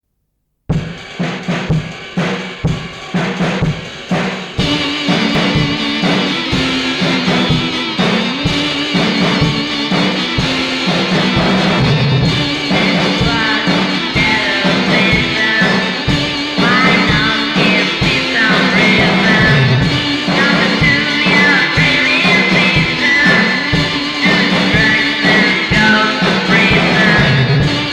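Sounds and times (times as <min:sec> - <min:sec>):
drum kit beat: 0:00.7 - 0:27.9
garage rock band: 0:00.7 - 0:27.9.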